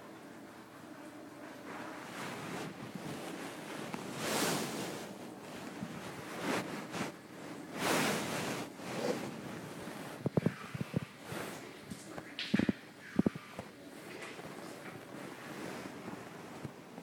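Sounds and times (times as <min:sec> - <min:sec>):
muffled microphone handling rustling: 0:01.6 - 0:17.0.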